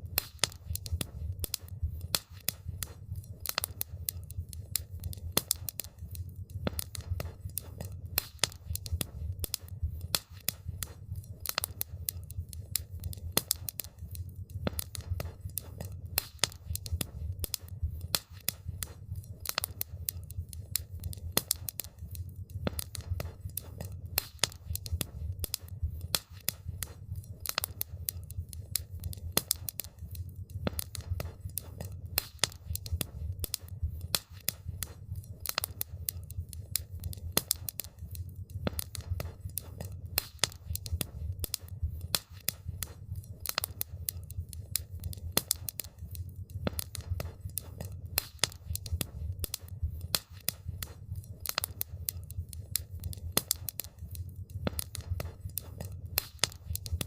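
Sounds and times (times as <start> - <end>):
low rumble of burning: 0.0 - 57.0
wood fire crackling and popping: 0.0 - 57.0.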